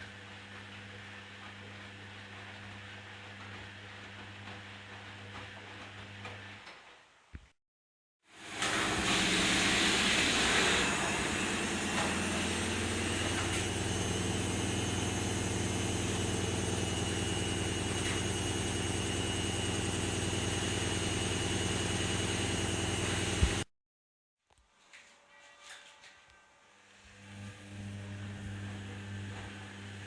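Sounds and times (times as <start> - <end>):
washing machine spinning: 0.0 - 7.1, 8.4 - 23.7, 27.1 - 30.0.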